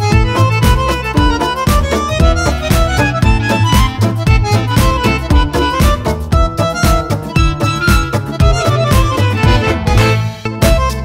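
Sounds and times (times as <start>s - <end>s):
fast dance beat: 0.0s - 11.0s
violin melody: 0.0s - 11.0s.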